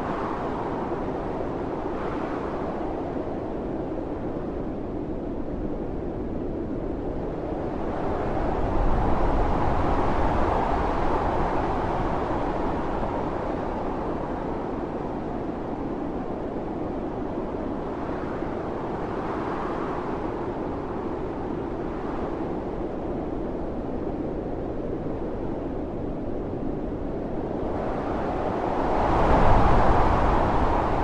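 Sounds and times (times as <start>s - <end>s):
howling storm wind: 0.0s - 31.0s.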